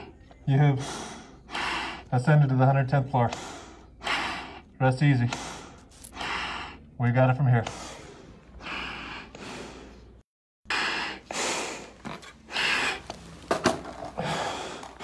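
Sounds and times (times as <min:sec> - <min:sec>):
heavy breathing through facepiece: 0:00.0 - 0:02.4, 0:03.1 - 0:13.3, 0:14.1 - 0:15.0.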